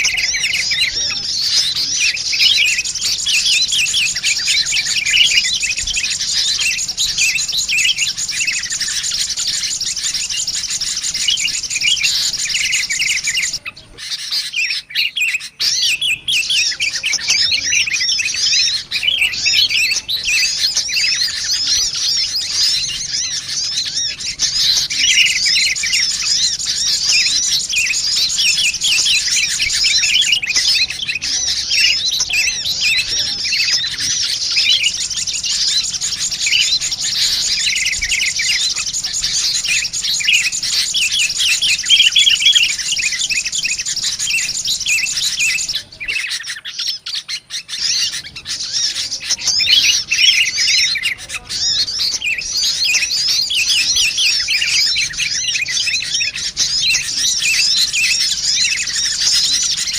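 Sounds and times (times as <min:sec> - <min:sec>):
bulbul calls: 0:00.0 - 0:59.9
high sunbird chirps: 0:00.0 - 0:59.9.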